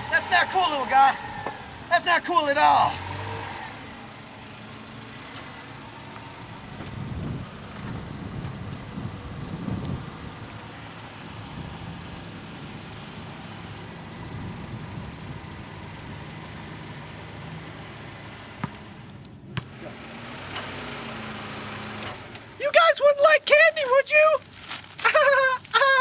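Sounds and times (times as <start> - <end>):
car engine running: 0.0 - 22.6.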